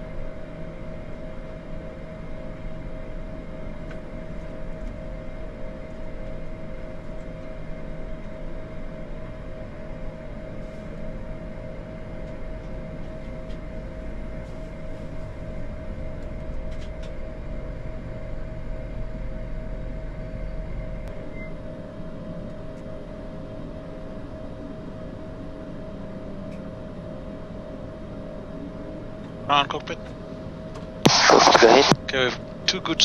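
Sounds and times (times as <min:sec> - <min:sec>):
aircraft engines idling hum: 0:00.0 - 0:33.0.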